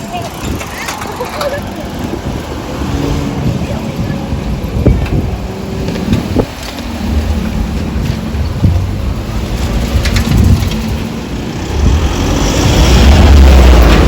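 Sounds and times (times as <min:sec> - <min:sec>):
vehicle engines rumbling: 0:00.0 - 0:14.0.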